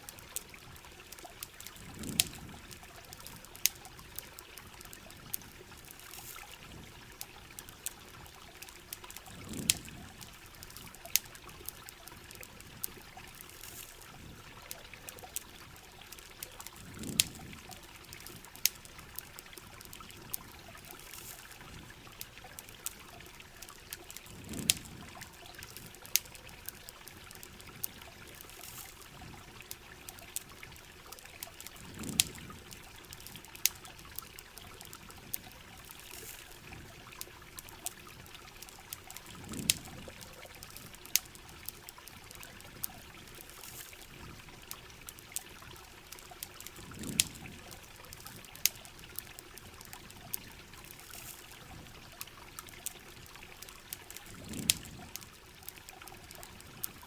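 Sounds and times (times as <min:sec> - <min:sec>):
campfire crackling: 0:00.0 - 0:57.0
rain: 0:00.0 - 0:57.0
running water: 0:00.0 - 0:57.0.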